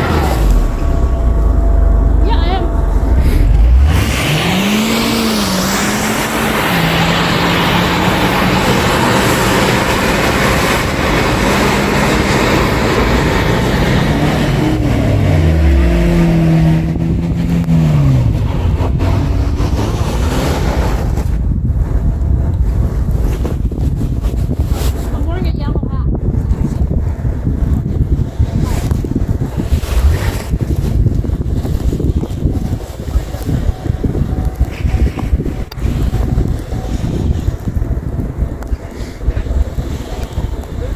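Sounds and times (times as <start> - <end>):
car engine revving: 0.0 - 23.8, 26.6 - 40.9
wheels spinning in snow: 0.0 - 40.9.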